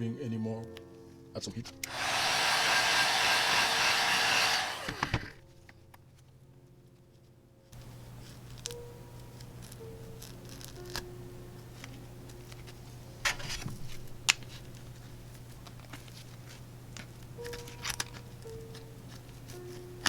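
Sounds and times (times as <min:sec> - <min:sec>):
soft background music: 0:00.0 - 0:01.9, 0:05.4 - 0:20.0.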